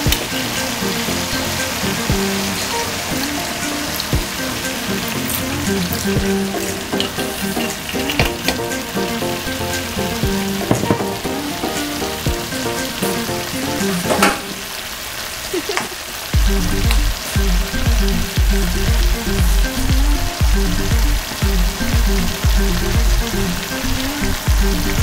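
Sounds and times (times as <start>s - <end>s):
background music with bass beat: 0.0s - 14.2s, 16.4s - 25.0s
meat and onion sizzling: 0.0s - 25.0s.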